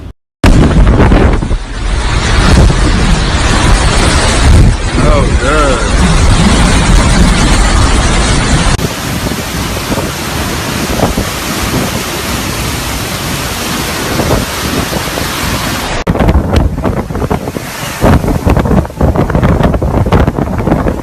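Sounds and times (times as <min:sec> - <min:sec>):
hurricane wind: 0:00.0 - 0:21.0
wind rumbling on microphone: 0:00.0 - 0:21.0
heavy rain: 0:00.4 - 0:21.0.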